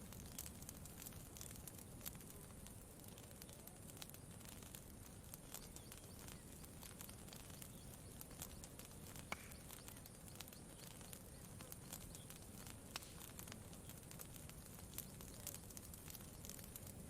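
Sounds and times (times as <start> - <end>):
campfire crackling: 0.0 - 17.0
fire pops: 0.0 - 17.0.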